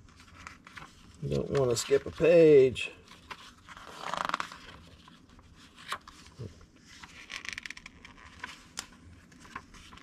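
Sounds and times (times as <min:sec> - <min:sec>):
magazine pages rustling: 0:00.0 - 0:10.0.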